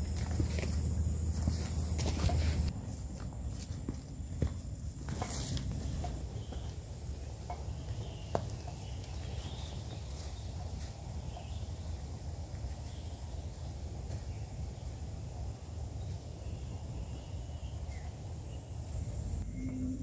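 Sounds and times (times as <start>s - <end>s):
high insect drone: 0.0s - 2.7s, 5.2s - 20.0s
faint footsteps on path: 0.0s - 17.3s.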